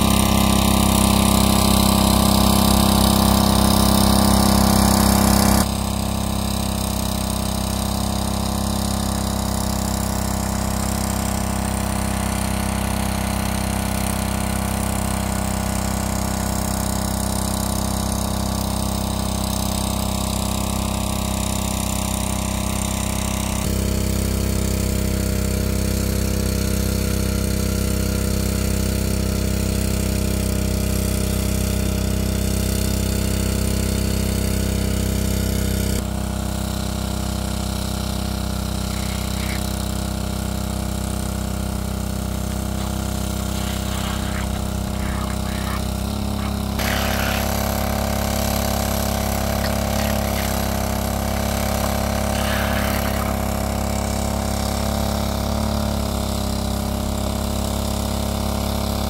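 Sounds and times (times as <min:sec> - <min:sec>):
small water pump engine running: 0:00.0 - 0:59.0.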